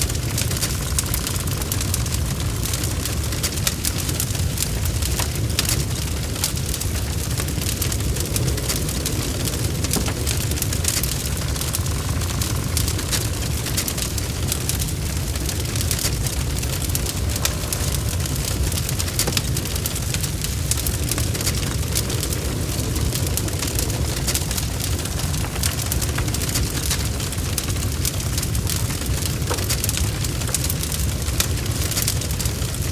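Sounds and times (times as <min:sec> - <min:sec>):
rain falling: 0:00.0 - 0:32.9
wood fire crackling: 0:00.0 - 0:32.9.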